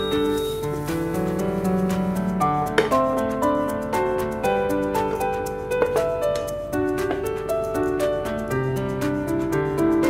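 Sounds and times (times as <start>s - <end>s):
held keyboard notes: 0.0s - 10.0s.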